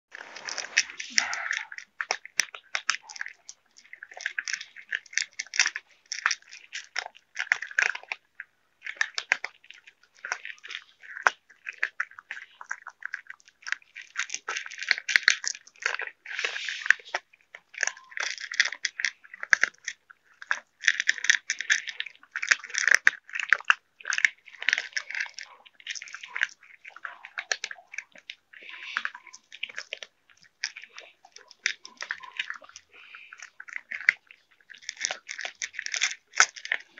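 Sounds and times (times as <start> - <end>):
cats crunching food: 0.1 - 36.9.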